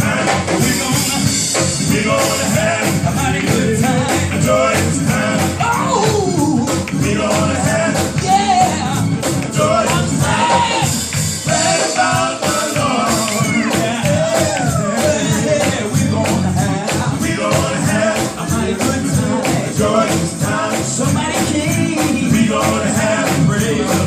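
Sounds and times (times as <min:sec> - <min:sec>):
gospel band playing: 0:00.0 - 0:24.0
singing: 0:00.0 - 0:24.0.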